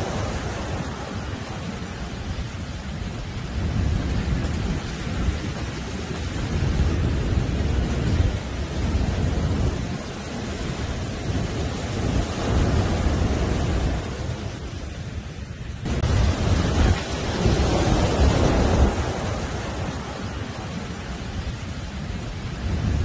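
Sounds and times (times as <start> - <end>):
heavy surf breaking: 0.0 - 23.0.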